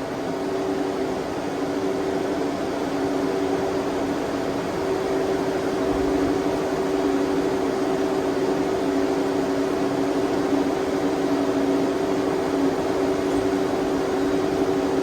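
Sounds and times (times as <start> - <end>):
electric cooling fans humming: 0.0 - 15.0.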